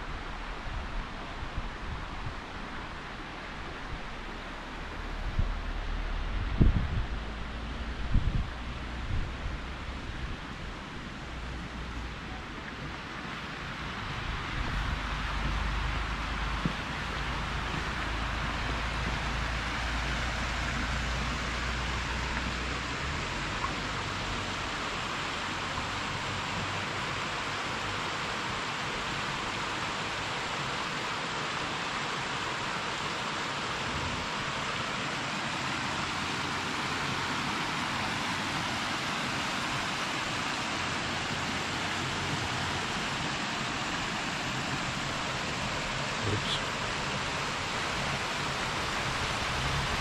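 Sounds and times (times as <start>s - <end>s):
creek and waterfall rushing: 0.0s - 50.0s.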